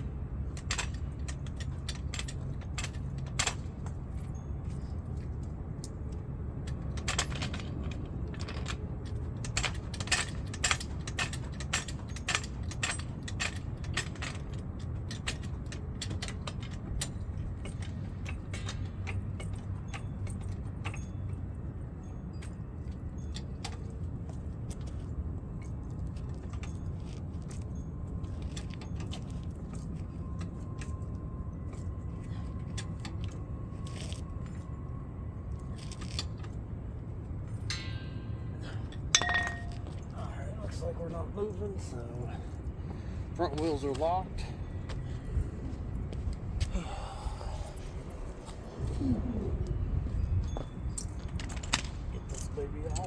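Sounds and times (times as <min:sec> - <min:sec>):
metallic clinks and rattles: 0:00.0 - 0:53.0
steady low hum: 0:00.0 - 0:53.0.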